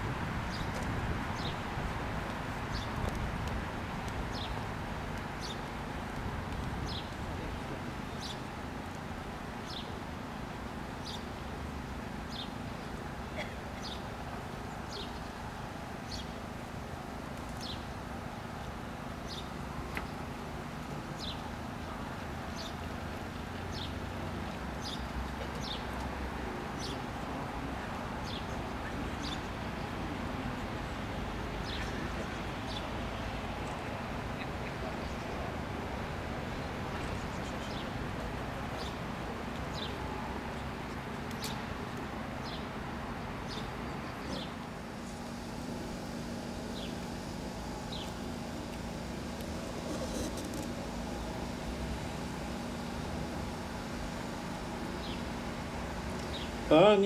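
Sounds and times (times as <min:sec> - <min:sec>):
faint hum: 0:00.0 - 0:57.0
low outdoor rumble: 0:00.0 - 0:57.0.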